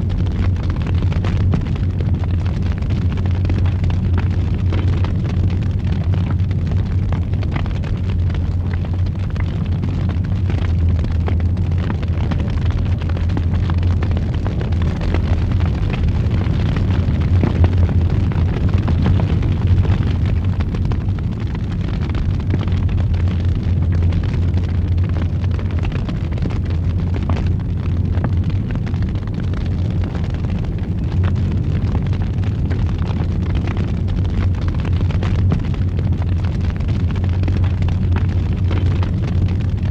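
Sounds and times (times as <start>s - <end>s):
fire crackling and popping: 0.0s - 39.9s
fire roaring: 0.0s - 39.9s.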